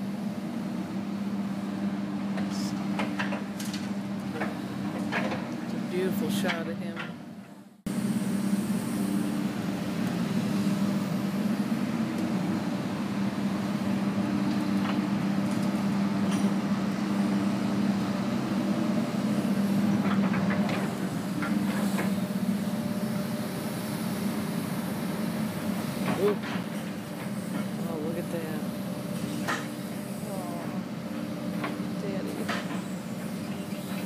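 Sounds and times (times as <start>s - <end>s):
construction machinery engine drone: 0.0s - 34.0s.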